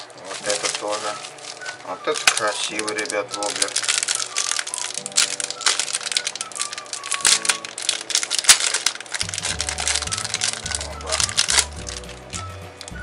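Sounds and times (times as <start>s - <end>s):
plastic packaging crinkling: 0.0s - 13.0s
soft background music: 0.0s - 13.0s.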